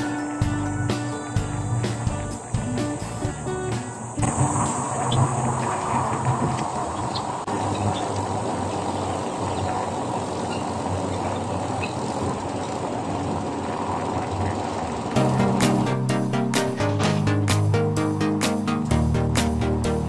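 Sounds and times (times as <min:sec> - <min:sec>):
bike tires rolling and rattling: 0:00.0 - 0:17.7.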